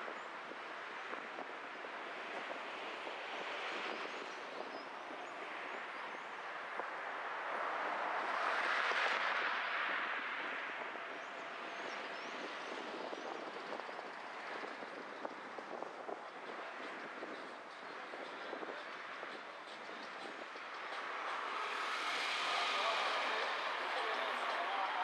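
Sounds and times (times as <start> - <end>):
car road noise: 0.3 - 25.0.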